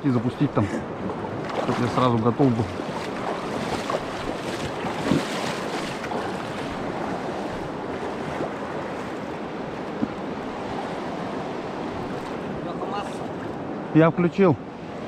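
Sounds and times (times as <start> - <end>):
wind buffeting microphone: 0.0 - 13.9
river water rushing: 0.0 - 15.0.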